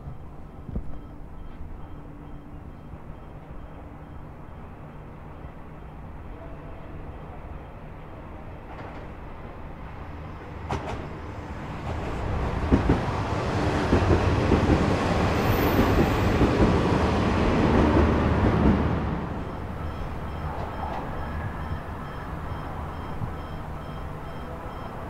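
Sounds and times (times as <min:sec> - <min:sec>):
diesel train engine hum: 0:00.0 - 0:25.0.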